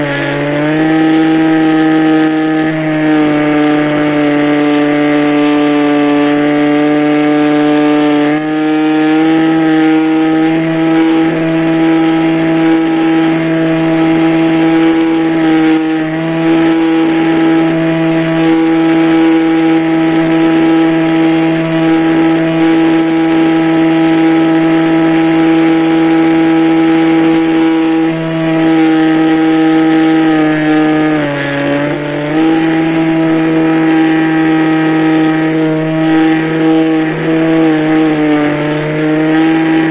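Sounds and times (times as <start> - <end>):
model airplane motor running: 0.0 - 39.9.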